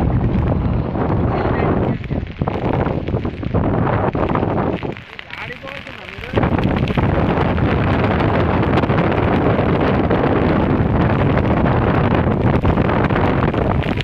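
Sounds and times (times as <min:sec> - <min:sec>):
floodwater rushing across road: 0:00.0 - 0:14.0
wind buffeting microphone: 0:00.0 - 0:14.0.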